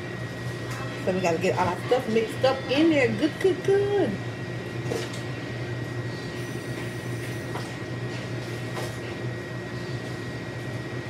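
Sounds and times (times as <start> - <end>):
low hum with high whine: 0.0 - 11.0.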